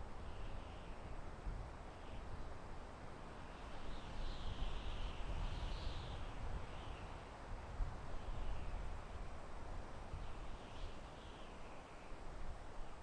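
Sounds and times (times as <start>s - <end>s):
wind blowing through forest: 0.0s - 13.0s.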